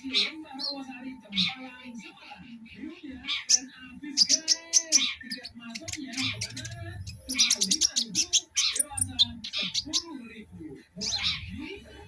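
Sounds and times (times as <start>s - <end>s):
background voices: 0.0s - 12.0s
bird chirping and twittering: 0.0s - 12.0s.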